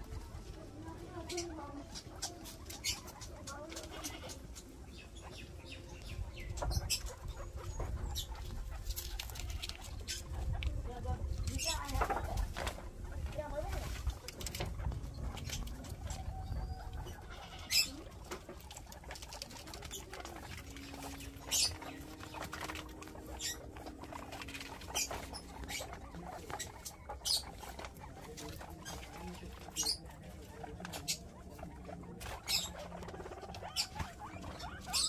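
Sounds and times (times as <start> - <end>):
guinea pigs squeaking: 0.0 - 35.0.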